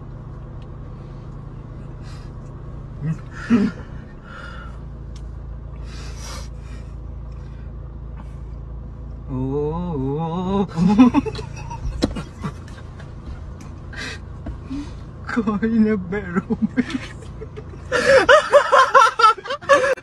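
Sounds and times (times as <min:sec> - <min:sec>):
car interior rumble: 0:00.0 - 0:20.0.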